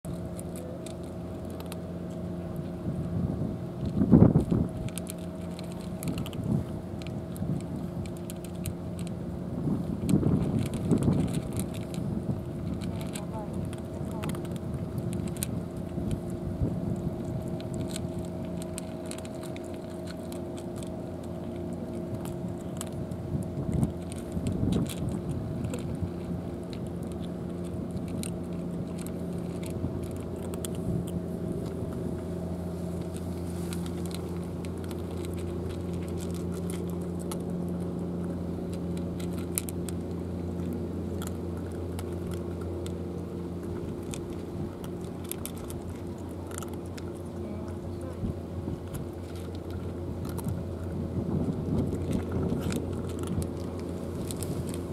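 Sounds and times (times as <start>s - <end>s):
low engine hum: 0.0s - 54.9s
cats crunching dry kibble: 0.1s - 54.9s.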